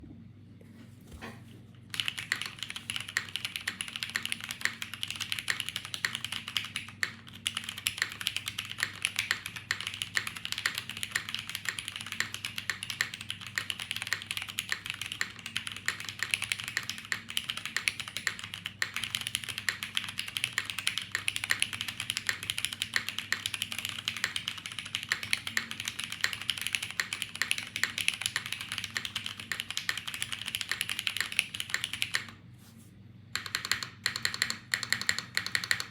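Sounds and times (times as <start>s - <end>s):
mechanical keyboard typing: 1.9s - 32.4s, 33.3s - 35.9s.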